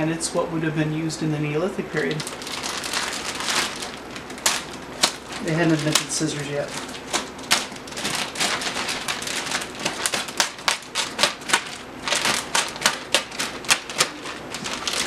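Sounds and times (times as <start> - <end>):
plastic wrapping tearing: 2.0 - 15.0.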